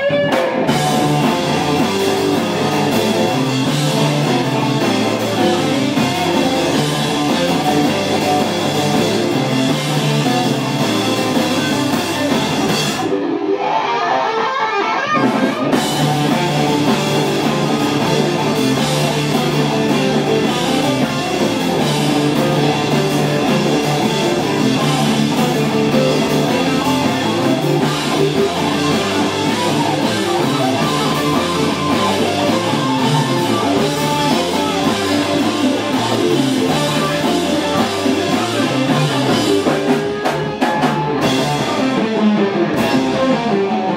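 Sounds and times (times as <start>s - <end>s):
electric bass: 0.0s - 13.3s, 15.2s - 43.9s
drum kit: 0.0s - 13.5s, 14.9s - 43.9s
distorted electric guitars: 0.0s - 43.9s
heavy rock band playing: 0.0s - 43.9s.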